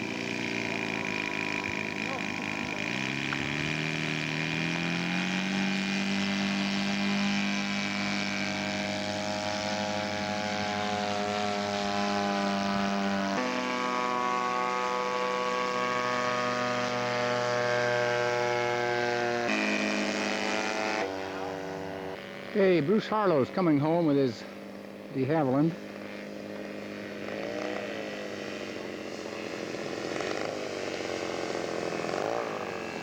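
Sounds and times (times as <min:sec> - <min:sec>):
model airplane engine running: 0:00.0 - 0:33.0.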